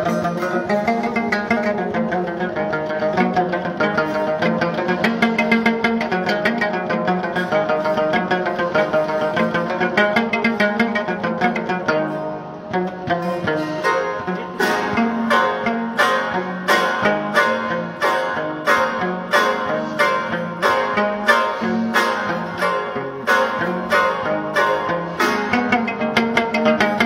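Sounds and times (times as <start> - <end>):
plucked lute melody: 0.0 - 27.0.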